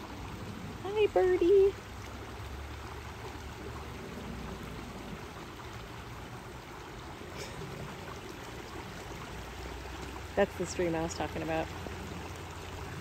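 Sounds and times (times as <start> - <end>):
creek flowing over stones: 0.0 - 13.0.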